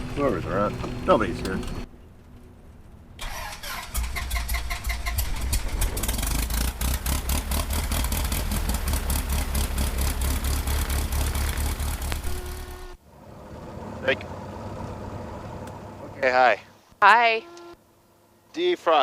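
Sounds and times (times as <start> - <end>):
aircraft engine starting and running: 0.0 - 16.3.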